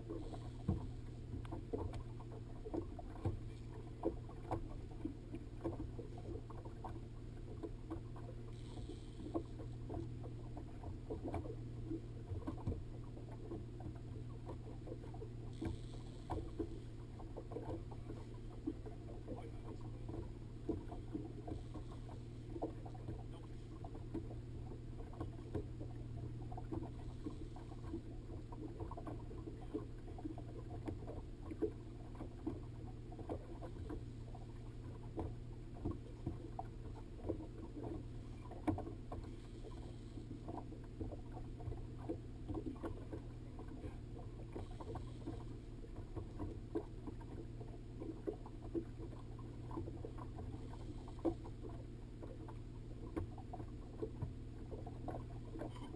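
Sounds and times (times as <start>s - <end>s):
steady low hum: 0.0s - 55.9s
waves slapping against boat hull: 0.0s - 55.9s.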